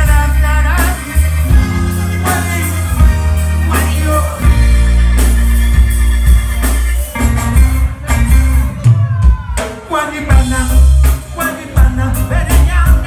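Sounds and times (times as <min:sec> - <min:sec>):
loud held bass notes: 0:00.0 - 0:09.5, 0:10.3 - 0:13.0
live band playing: 0:00.0 - 0:13.0.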